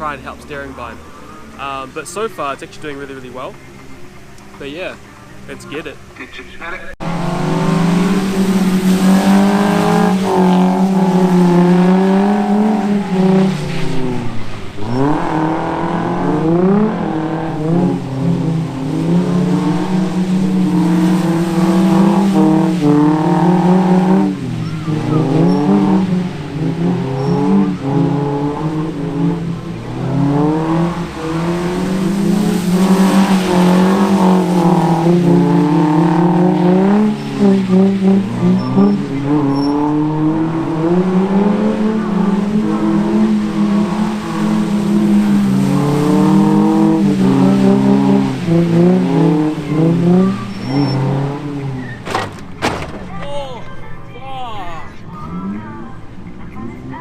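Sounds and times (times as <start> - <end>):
car engines revving hard: 0.0 - 53.2, 55.0 - 57.0.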